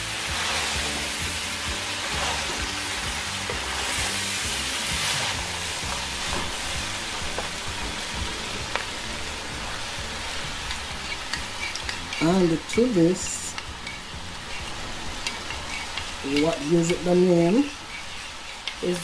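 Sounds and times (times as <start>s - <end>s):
background music: 0.0s - 17.7s
food sizzling in a frying pan: 0.0s - 19.0s
wooden spatula stirring: 1.9s - 12.8s, 13.8s - 19.0s.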